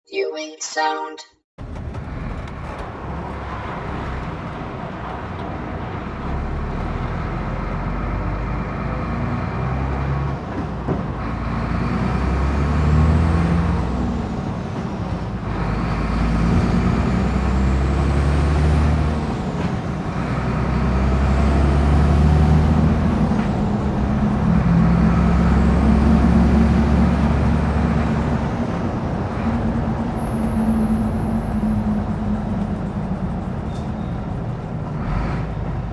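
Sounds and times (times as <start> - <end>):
truck engine and road rumble: 1.6 - 35.9.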